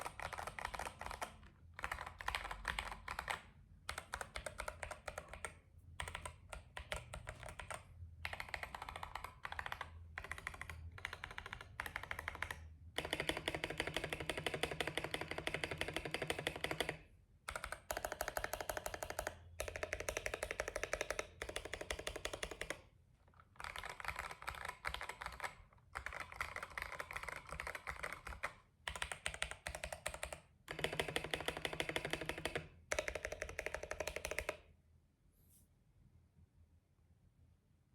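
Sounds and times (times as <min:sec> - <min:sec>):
mechanical keyboard typing: 0:00.0 - 0:22.8, 0:23.4 - 0:34.6.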